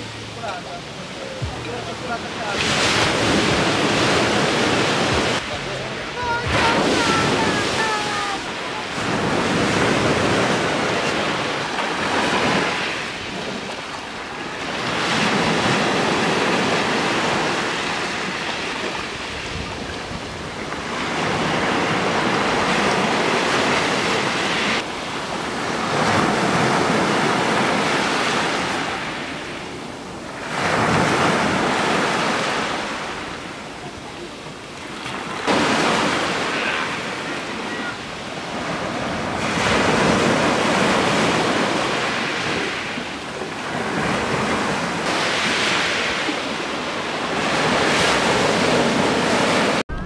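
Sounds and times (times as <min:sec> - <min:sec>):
sea surf breaking on shore: 0:00.0 - 0:50.0.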